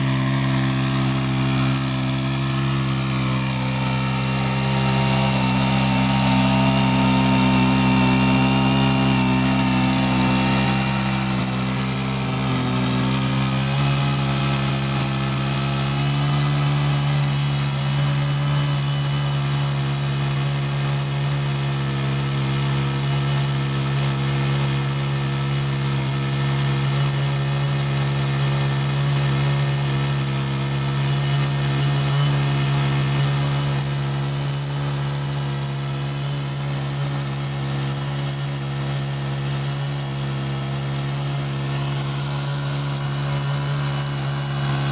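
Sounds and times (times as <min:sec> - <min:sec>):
chainsaw cutting through log: 0:00.0 - 0:44.9.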